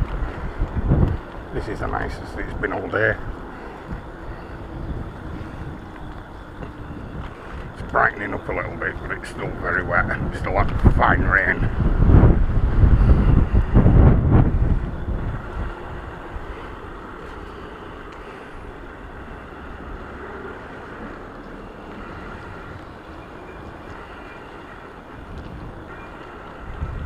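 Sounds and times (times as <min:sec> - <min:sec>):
rush of wind: 0:00.0 - 0:27.0
tyres on wet road: 0:00.0 - 0:27.0
wind buffeting microphone: 0:00.0 - 0:27.0.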